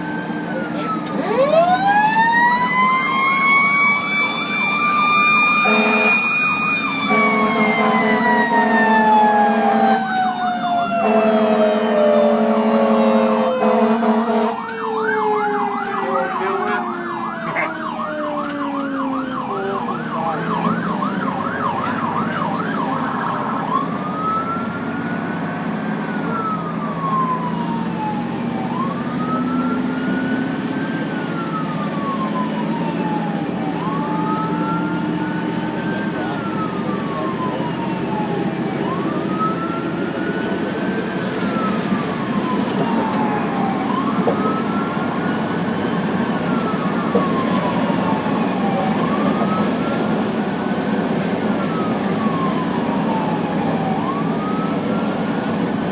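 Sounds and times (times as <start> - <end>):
engine and road rumble: 0.0 - 55.9
fire engine siren: 0.0 - 55.9.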